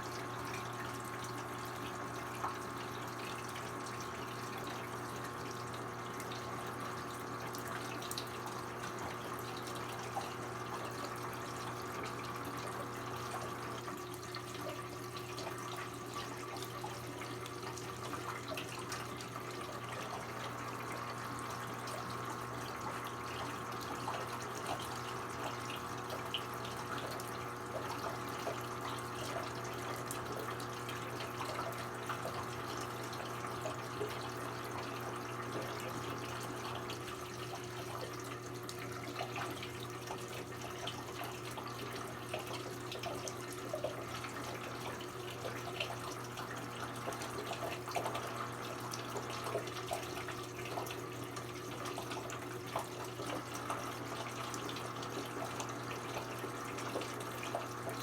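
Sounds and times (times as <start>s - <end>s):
washing machine hum: 0.0s - 58.0s
water splashing in washing machine: 0.0s - 58.0s.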